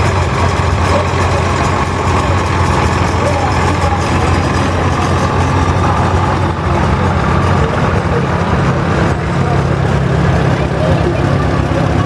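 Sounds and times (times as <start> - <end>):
other tractor engines running: 0.0 - 12.0
tractor engine passing: 0.0 - 12.0.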